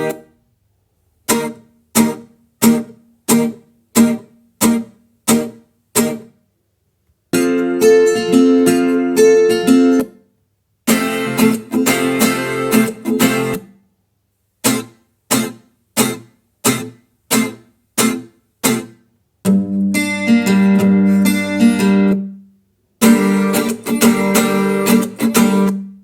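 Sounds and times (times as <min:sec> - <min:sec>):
strummed guitar chords: 0:01.3 - 0:06.3, 0:07.4 - 0:10.1, 0:10.9 - 0:13.6, 0:14.7 - 0:22.4, 0:23.0 - 0:26.0.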